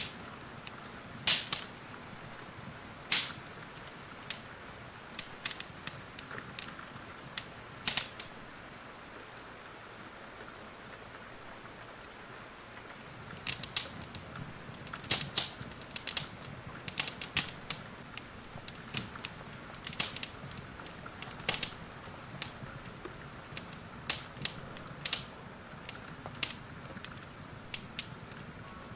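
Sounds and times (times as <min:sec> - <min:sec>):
wood fire crackling and popping: 0:00.0 - 0:08.6, 0:12.7 - 0:28.9
rain hissing: 0:00.0 - 0:28.9.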